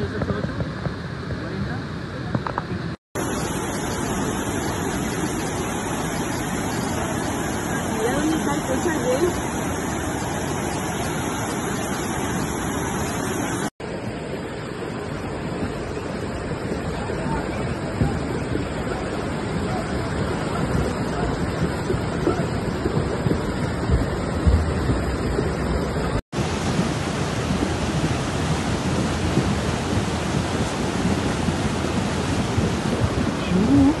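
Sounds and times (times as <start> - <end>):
floodwater rushing: 2.8 - 34.0.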